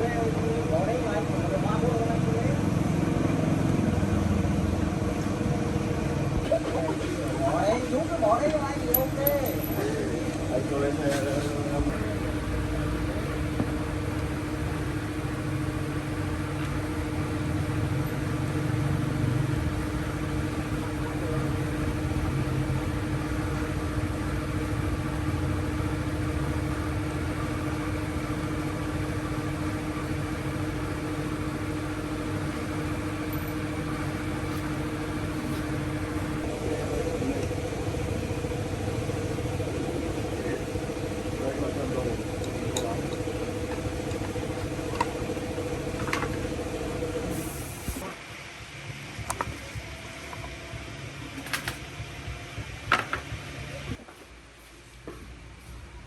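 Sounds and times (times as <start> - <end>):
machine humming: 0.0 - 54.0.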